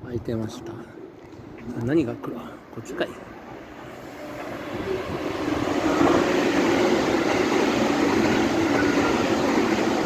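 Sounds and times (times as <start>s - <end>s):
electric train passing: 1.4s - 10.0s.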